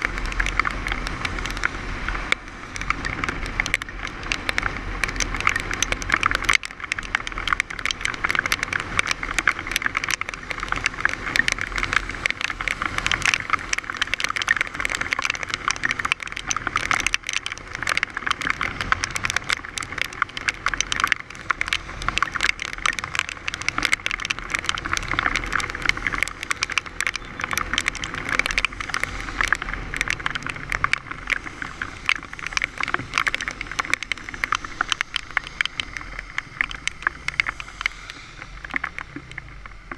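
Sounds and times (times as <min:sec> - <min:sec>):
heavy rain hitting camera: 0:00.0 - 0:39.9
road noise on wet road: 0:00.0 - 0:39.9.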